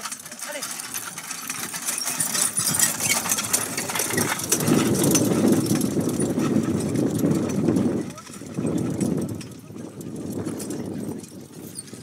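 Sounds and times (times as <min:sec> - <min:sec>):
carriage rattling: 0:00.0 - 0:12.0
horse hoofbeats: 0:00.0 - 0:12.0.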